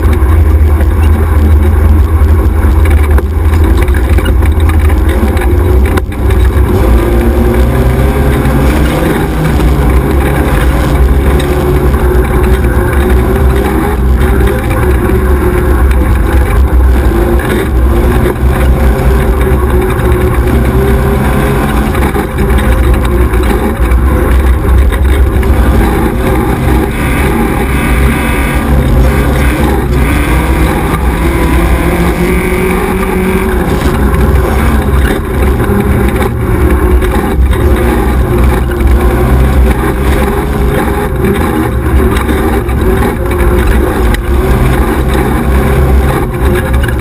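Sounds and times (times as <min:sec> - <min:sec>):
buggy engine running hard: 0:00.0 - 0:47.0.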